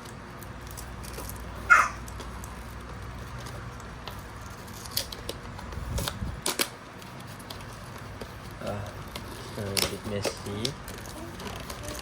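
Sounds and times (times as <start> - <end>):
cardboard and plastic rustling: 0.6 - 12.0.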